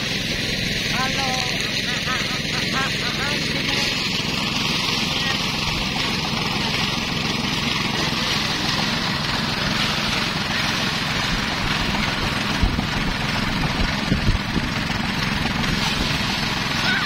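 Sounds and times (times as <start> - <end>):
small gasoline engine running: 0.0 - 17.0.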